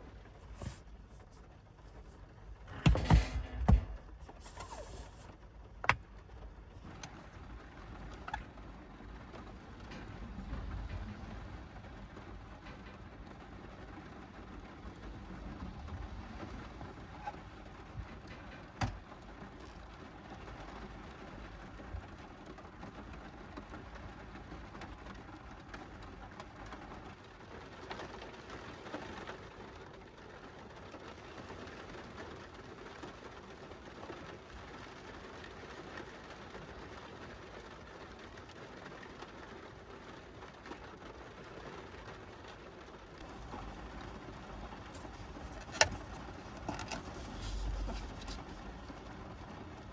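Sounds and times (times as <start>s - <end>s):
rain on a car roof: 5.1s - 49.9s.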